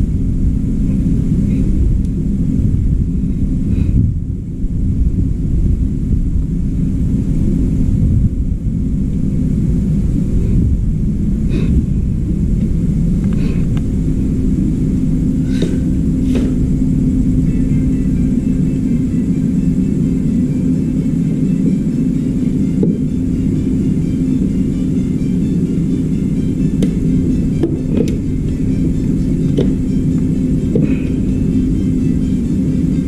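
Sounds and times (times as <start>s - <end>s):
low rumble with hum: 0.0s - 33.0s.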